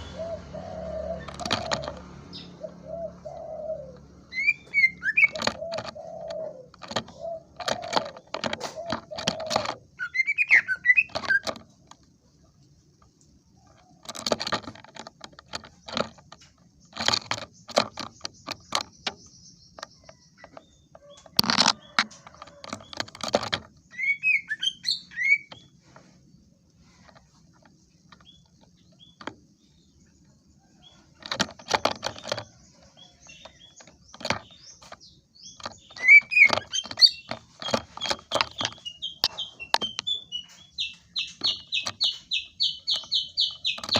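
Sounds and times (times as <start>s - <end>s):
bird singing chattering notes: 0.0s - 11.8s, 15.5s - 22.1s, 23.6s - 25.8s, 27.8s - 43.9s.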